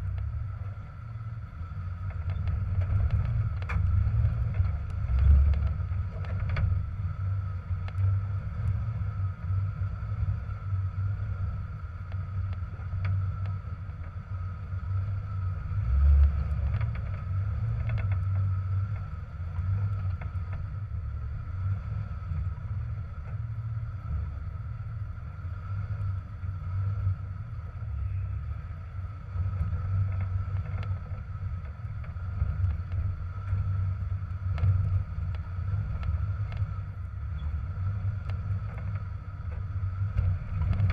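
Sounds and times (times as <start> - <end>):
engine low uneven rumble: 0.0 - 40.9
faint steady whine: 0.0 - 40.9.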